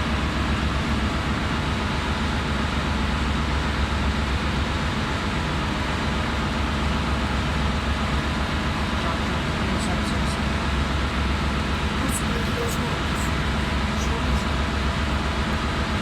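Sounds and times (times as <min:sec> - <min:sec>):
ship engine room machinery drone: 0:00.0 - 0:16.0.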